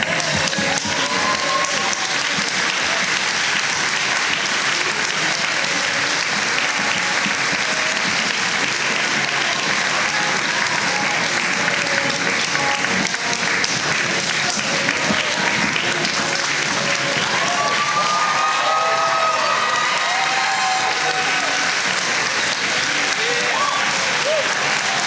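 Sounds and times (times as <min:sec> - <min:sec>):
audience applause: 0:00.0 - 0:25.0.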